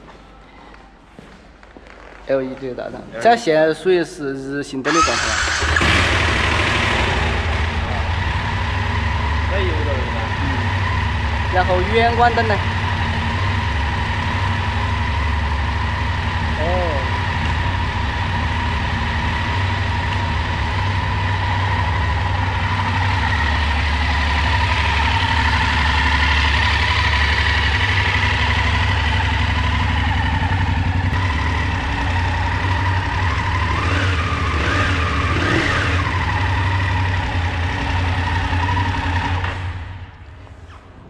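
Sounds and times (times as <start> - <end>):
motorcycle engine idling: 4.9 - 40.1.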